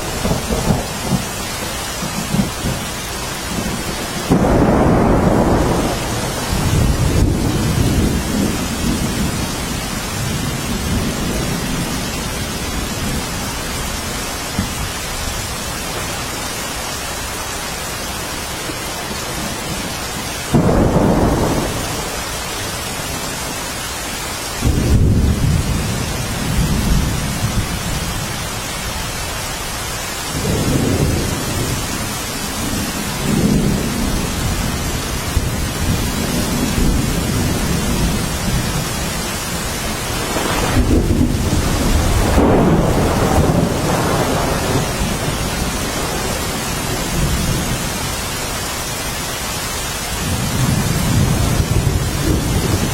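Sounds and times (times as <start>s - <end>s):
thunder rumbling: 0.0s - 23.6s, 24.6s - 48.7s, 50.2s - 52.9s
rain falling: 0.0s - 52.9s.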